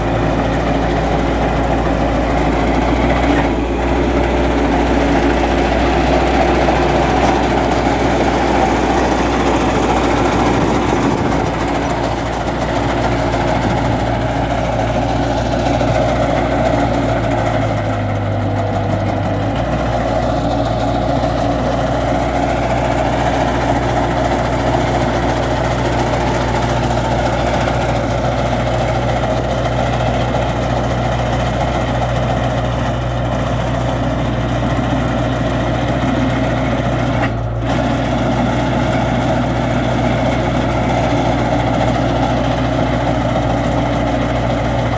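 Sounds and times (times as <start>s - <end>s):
loader engine running: 0.0s - 44.9s.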